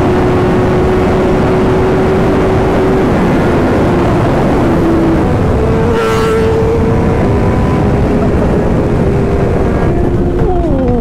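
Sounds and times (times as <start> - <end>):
motorcycle engine at speed: 0.0 - 11.0
wind rush on microphone: 0.0 - 11.0.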